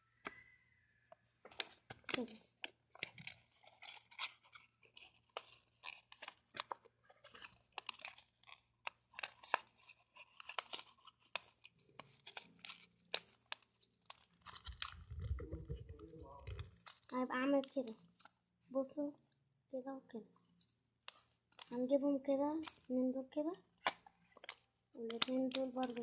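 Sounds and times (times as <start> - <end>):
paper crackling and crinkling: 1.4 - 18.4, 20.6 - 23.0, 23.7 - 26.0.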